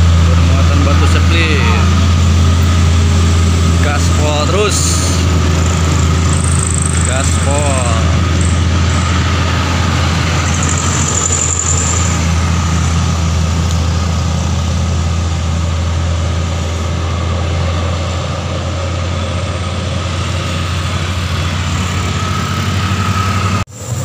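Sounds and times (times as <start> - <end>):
motorcycle engines: 0.0 - 24.0
truck engines droning: 0.0 - 24.0.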